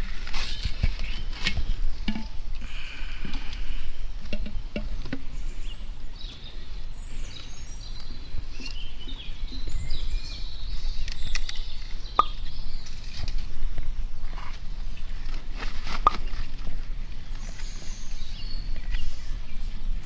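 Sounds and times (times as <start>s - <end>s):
birds chirping and calling: 0.0s - 20.0s
rustling of palm fronds: 0.0s - 20.0s.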